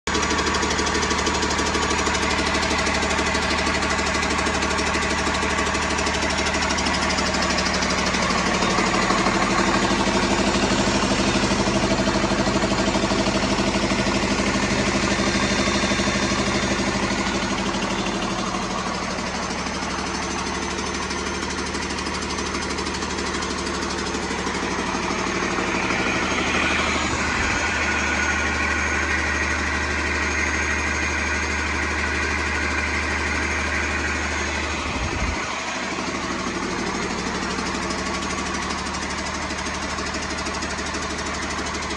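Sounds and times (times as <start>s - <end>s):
diesel engine idling: 0.1s - 41.9s.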